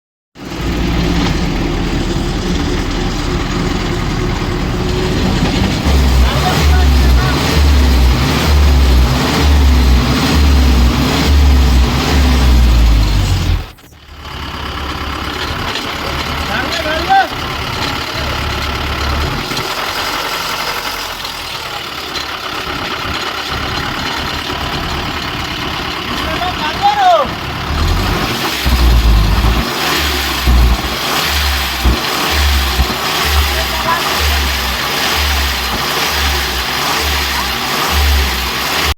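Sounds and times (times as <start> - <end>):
abnormal drivetrain noise: 0.4 - 38.9
truck engine running: 0.4 - 38.9.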